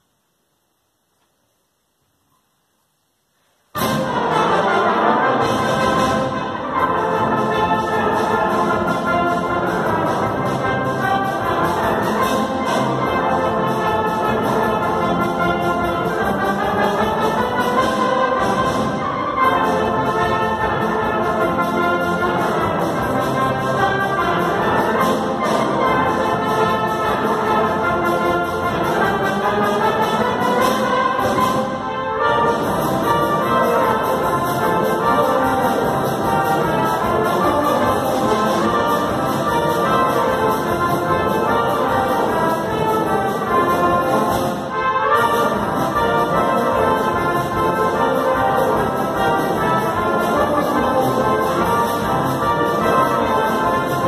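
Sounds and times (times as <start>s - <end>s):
brass band playing: 3.7s - 54.0s.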